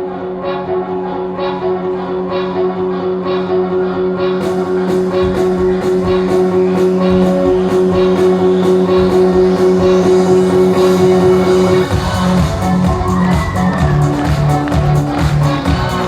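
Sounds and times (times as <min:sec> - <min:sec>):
dance music with steady beat: 0:00.0 - 0:16.0.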